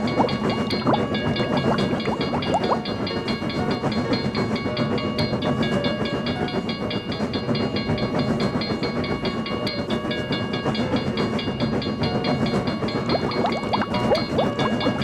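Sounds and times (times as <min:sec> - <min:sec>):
railroad crossing bell ringing: 0:00.0 - 0:15.0
train rumbling past: 0:00.0 - 0:15.0.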